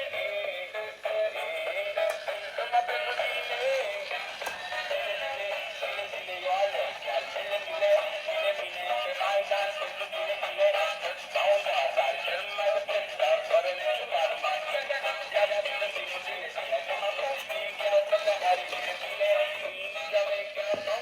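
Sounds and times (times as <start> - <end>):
synthetic singing voice on tinny speaker: 0.0 - 21.0.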